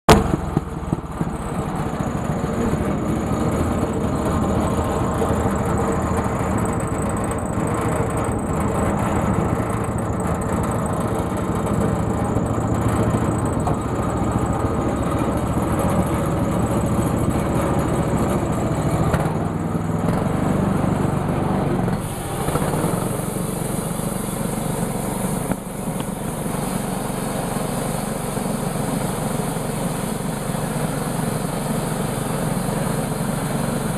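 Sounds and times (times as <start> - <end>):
sawmill engine running: 0.1 - 33.9.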